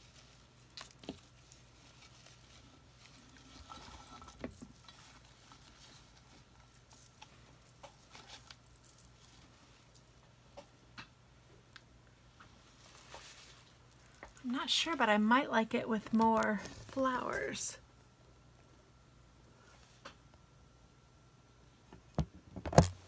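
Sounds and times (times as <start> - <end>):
faint rustling of materials: 0.0 - 20.5
low steady hum: 0.0 - 23.0.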